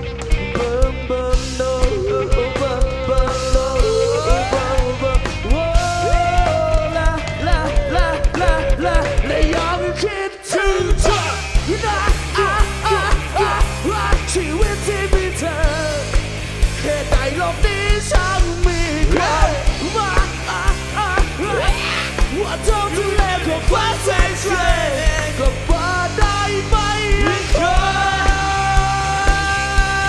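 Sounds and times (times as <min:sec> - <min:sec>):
rock band playing: 0:00.0 - 0:10.2, 0:10.8 - 0:30.0.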